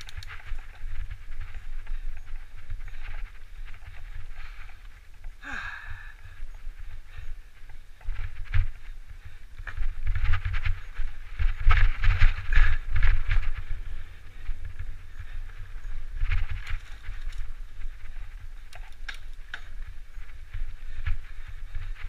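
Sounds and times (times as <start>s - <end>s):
bike rattling over bumps: 0.0s - 5.7s, 6.4s - 22.0s
wind buffeting microphone: 0.0s - 22.0s.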